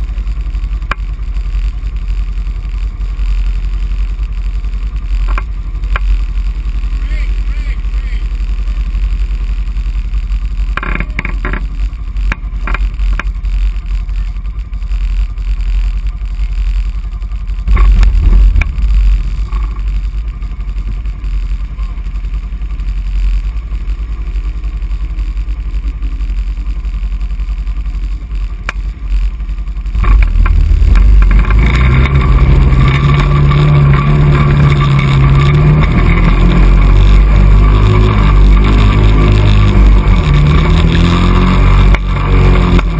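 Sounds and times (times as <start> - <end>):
atv engine revving loud: 0.0 - 14.4, 15.0 - 23.8, 24.4 - 42.9
atv engines rumbling: 0.0 - 42.9.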